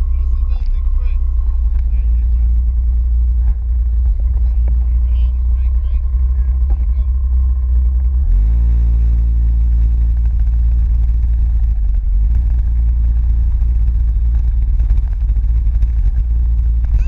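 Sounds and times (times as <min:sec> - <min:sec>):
vehicle engine: 0:00.0 - 0:17.0
wind and road noise: 0:00.0 - 0:17.0.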